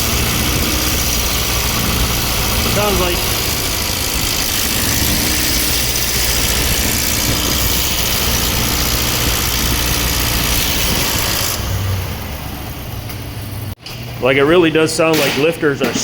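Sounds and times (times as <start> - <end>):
engine running with fast rattling: 0.0 - 14.6.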